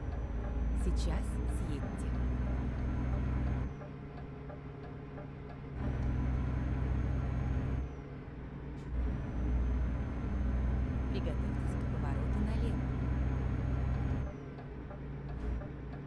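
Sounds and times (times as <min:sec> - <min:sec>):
truck engine from inside cab: 0:00.0 - 0:16.0.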